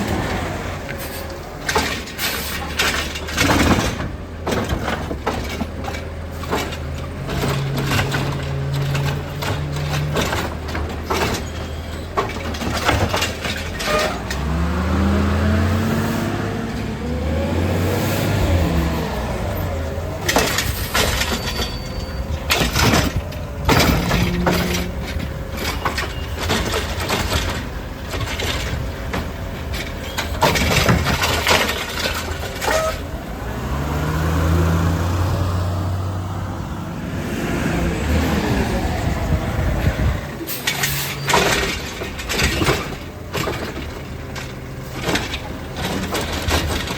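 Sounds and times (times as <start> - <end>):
cart banging and clattering: 0.0 - 36.0, 37.6 - 46.9
garbage truck engine revving: 0.0 - 46.9.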